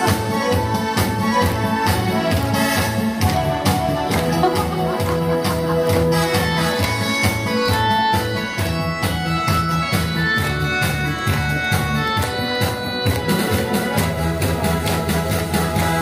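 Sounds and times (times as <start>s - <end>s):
instrumental backing track: 0.0s - 16.0s.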